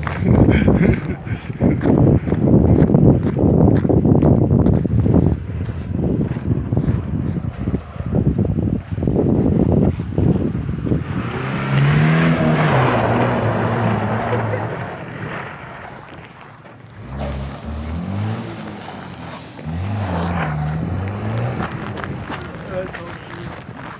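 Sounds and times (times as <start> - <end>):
wind buffeting microphone: 0.0 - 16.3, 16.9 - 23.9
off-road vehicle engine revving: 4.6 - 23.9.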